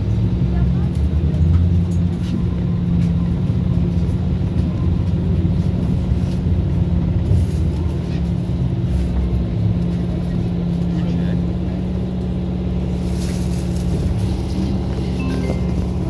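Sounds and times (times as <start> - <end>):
constant low hum: 0.0 - 16.0
tyres and running gear rumbling: 0.0 - 16.0.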